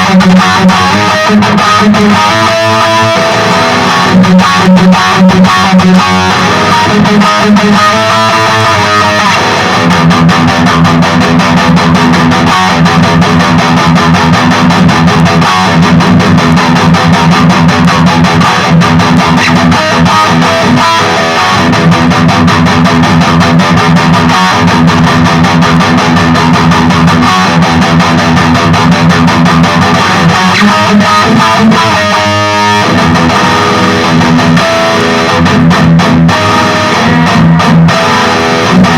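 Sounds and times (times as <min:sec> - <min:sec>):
distorted electric guitar riffing: 0:00.0 - 0:38.9.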